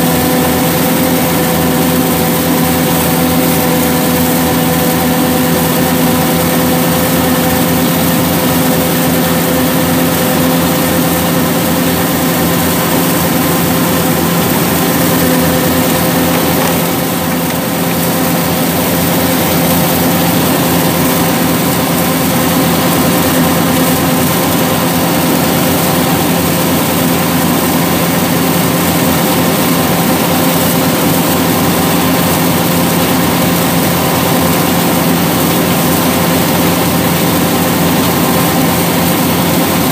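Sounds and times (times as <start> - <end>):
diesel engine drone: 0.0 - 39.9
whirr of threshing machinery: 0.0 - 39.9.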